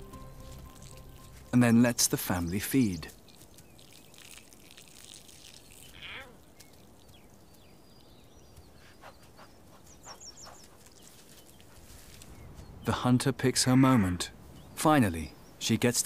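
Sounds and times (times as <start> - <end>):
faint grassland ambience: 0.0 - 16.0.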